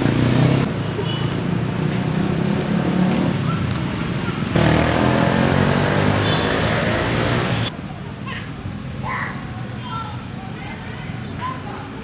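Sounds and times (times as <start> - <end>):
motor traffic noise: 0.0 - 12.0.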